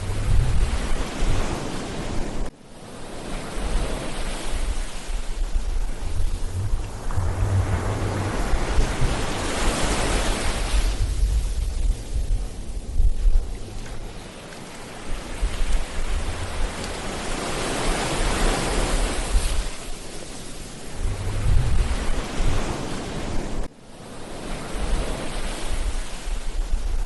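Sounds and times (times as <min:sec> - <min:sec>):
wind rumbling on microphone: 0:00.0 - 0:02.5, 0:03.1 - 0:23.7, 0:24.4 - 0:27.0
ocean waves breaking: 0:00.0 - 0:26.6.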